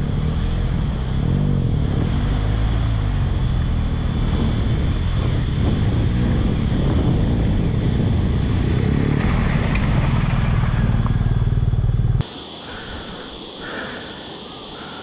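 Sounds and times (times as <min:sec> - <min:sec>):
motorcycle engine running loud: 0:00.0 - 0:12.3.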